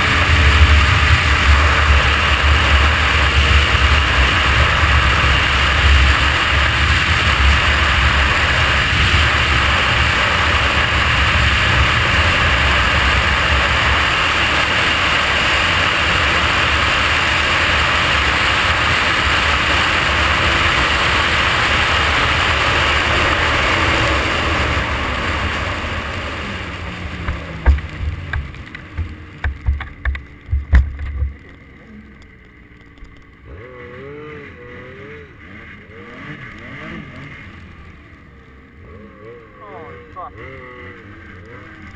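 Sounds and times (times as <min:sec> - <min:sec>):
snowmobile engine: 0:00.0 - 0:41.9.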